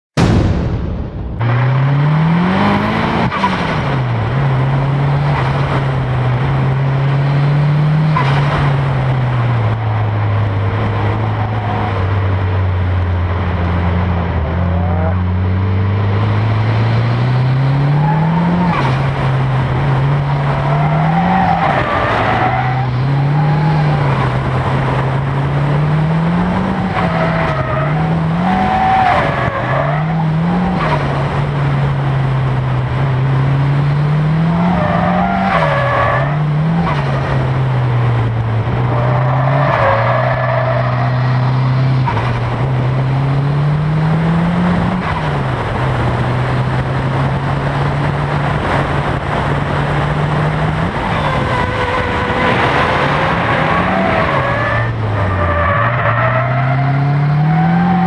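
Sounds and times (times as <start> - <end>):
car engine revving: 0.2 - 58.0.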